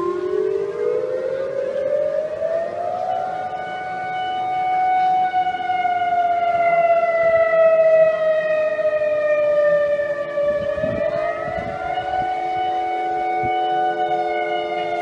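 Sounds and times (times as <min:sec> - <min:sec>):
warning siren: 0:00.0 - 0:15.0.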